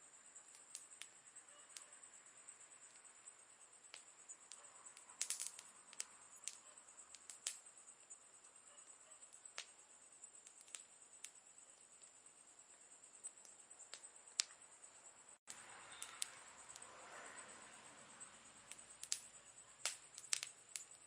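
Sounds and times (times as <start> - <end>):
campfire crackling and popping: 0.3 - 1.9, 2.8 - 14.7, 15.4 - 16.9, 18.6 - 21.0.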